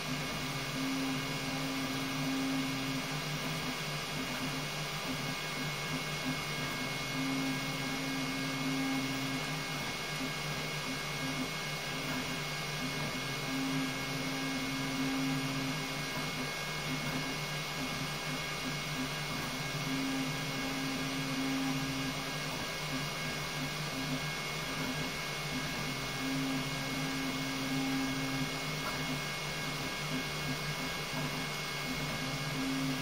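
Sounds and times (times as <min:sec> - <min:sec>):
whirring hum with high whine: 0:00.0 - 0:33.0
printer motors stuttering tone: 0:00.1 - 0:33.0.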